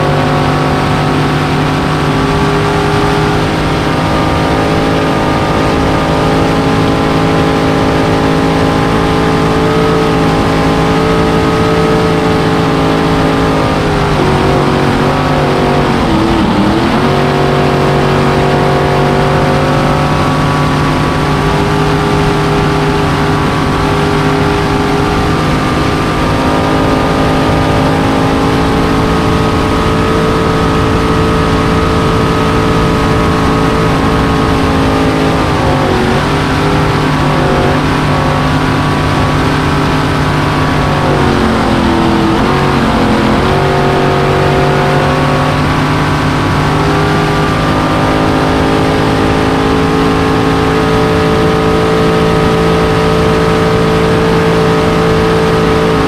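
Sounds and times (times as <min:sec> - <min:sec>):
boat engine running hard: 0:00.0 - 0:56.0.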